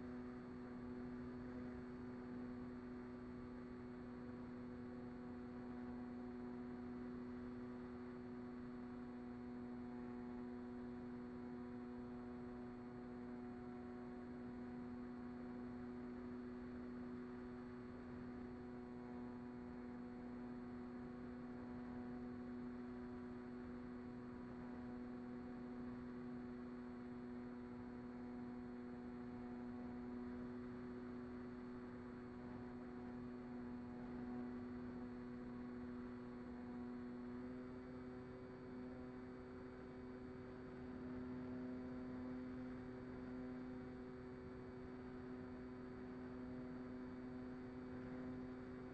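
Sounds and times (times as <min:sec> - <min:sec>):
steady motor hum: 0:00.0 - 0:48.9.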